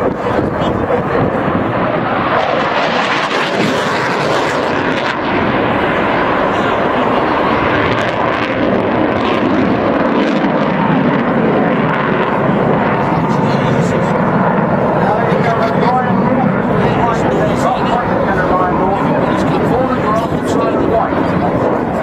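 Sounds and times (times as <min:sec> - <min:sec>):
jet aircraft engine roar: 0:00.0 - 0:22.0.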